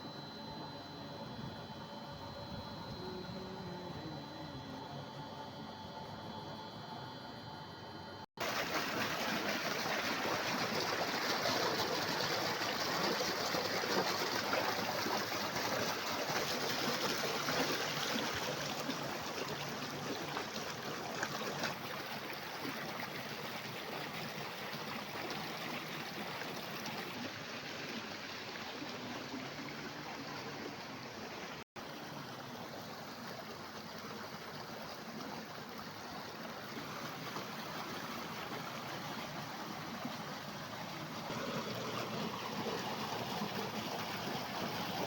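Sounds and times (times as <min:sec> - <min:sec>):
stream water flowing: 0:08.4 - 0:45.0.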